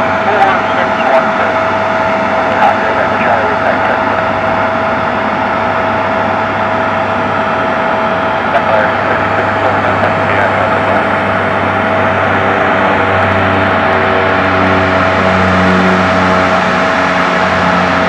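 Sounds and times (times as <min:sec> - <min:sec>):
propeller drone: 0:00.0 - 0:18.0
turboprop engine whine: 0:00.0 - 0:18.0.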